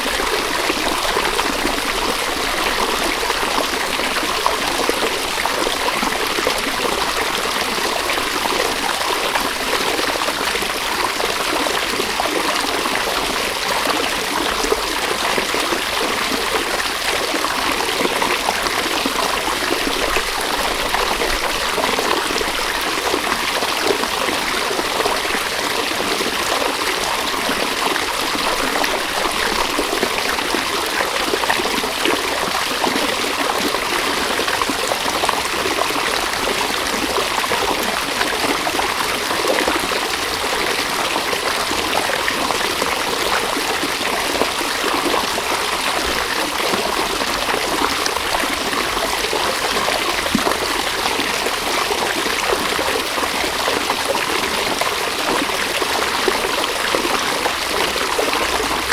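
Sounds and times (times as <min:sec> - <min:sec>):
river water over stones: 0:00.0 - 0:58.9.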